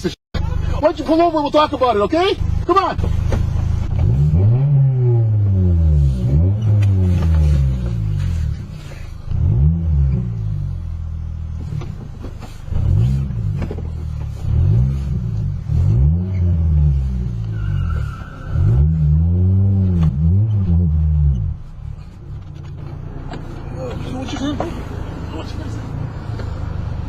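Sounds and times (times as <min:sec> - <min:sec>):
car engine revving: 0:00.4 - 0:27.0.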